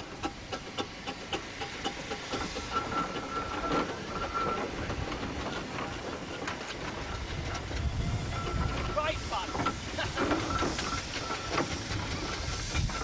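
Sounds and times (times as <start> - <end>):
steam engine clattering: 0.0 - 13.0
steam hissing: 0.0 - 13.0.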